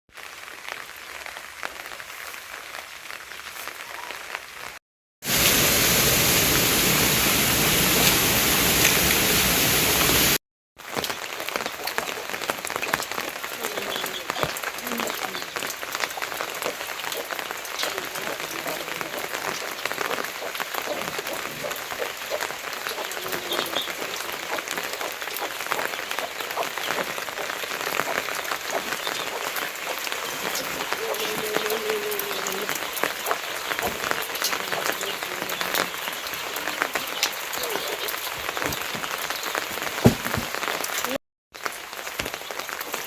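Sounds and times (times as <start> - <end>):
heavy rain falling: 0.1 - 43.0.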